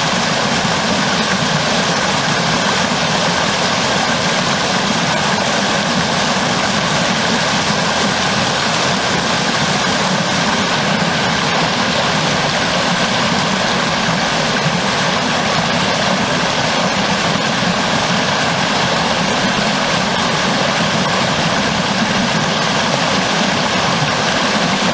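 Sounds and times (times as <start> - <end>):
stream rushing over log: 0.0 - 24.9.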